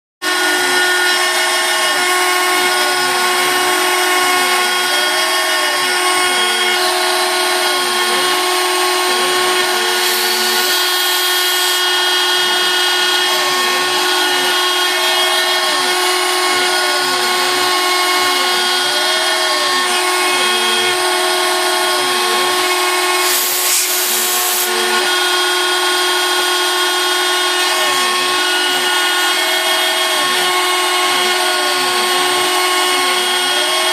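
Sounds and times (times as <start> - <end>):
spindle high whine: 0.2 - 33.9
stepper motors whirring: 0.2 - 33.9.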